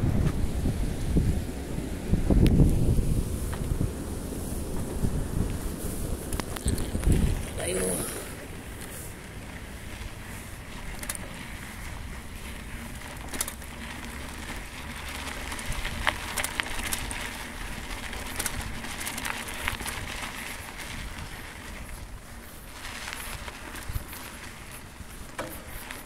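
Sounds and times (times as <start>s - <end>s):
tyres crunching on gravel track: 0.0s - 26.0s
wind rumble on microphone: 0.0s - 26.0s.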